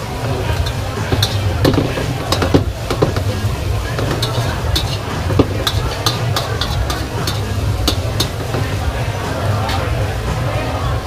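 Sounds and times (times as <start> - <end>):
utensils scraping steel wok: 0.0 - 10.4
frying sizzle: 0.0 - 11.0.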